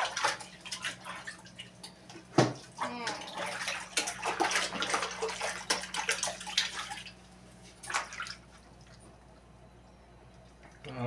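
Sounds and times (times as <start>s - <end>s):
water splashing in tub: 0.0s - 9.1s.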